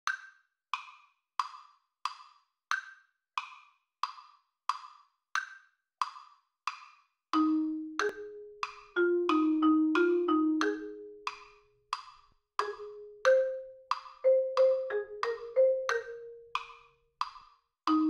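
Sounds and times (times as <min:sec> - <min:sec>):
woodblock metronome clicking: 0:00.0 - 0:18.0.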